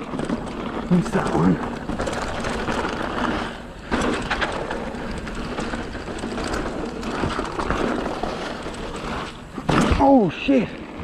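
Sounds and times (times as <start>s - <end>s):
bike knocking and rattling: 0.0s - 11.0s
tyres on dirt: 0.0s - 11.0s.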